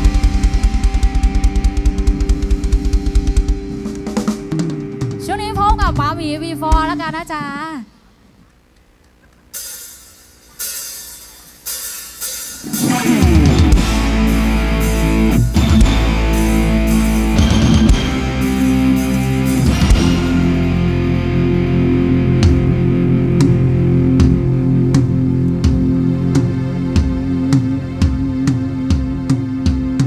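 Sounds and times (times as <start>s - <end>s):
live rock band playing: 0.0s - 7.4s, 9.5s - 30.0s
rock band hits: 0.0s - 7.4s, 9.5s - 30.0s.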